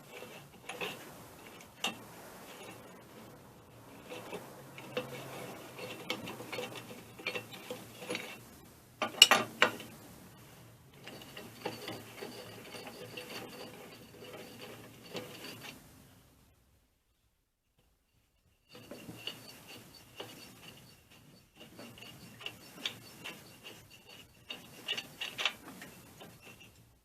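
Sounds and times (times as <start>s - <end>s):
light metallic clicks and scrapes: 0.0s - 15.8s, 17.8s - 27.0s.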